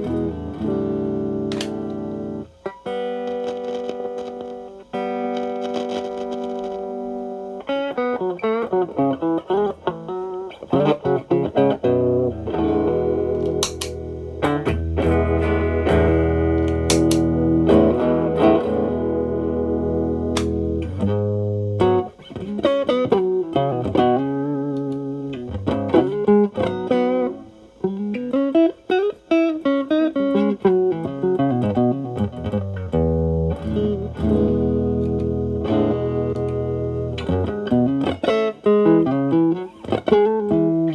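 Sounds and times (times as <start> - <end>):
overdriven electric guitar: 0.0 - 40.9.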